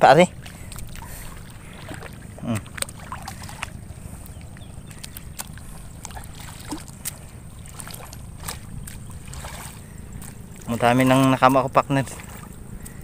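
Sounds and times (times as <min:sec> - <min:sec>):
small splashes: 0:00.0 - 0:13.0
water and mud sloshing: 0:00.0 - 0:13.0.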